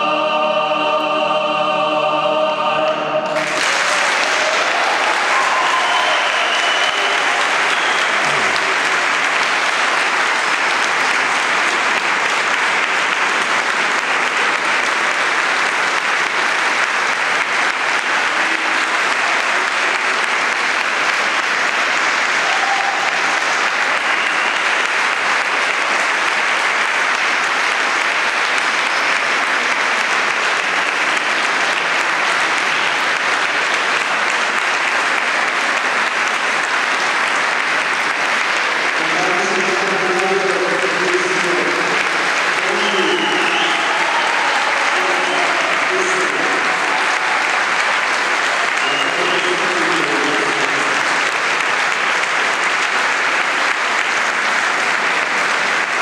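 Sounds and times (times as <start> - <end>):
audience applauding: 3.2 - 56.0.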